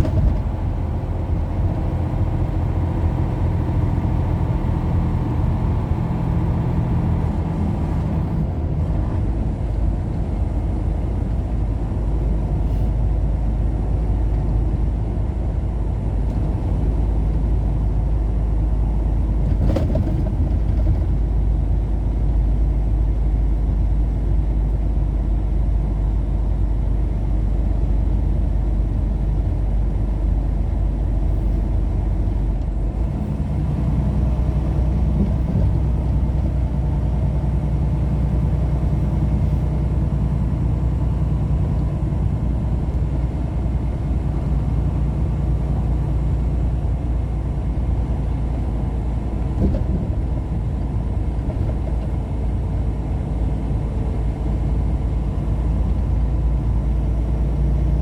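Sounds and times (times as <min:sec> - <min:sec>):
car engine and tyre rumble: 0:00.0 - 0:58.0
faint engine hum: 0:00.0 - 0:58.0.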